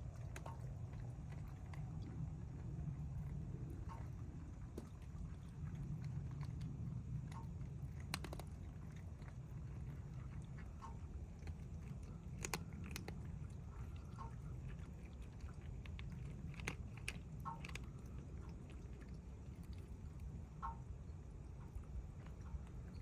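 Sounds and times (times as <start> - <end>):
cats crunching food: 0.0 - 23.0
steady low rumble: 0.0 - 23.0.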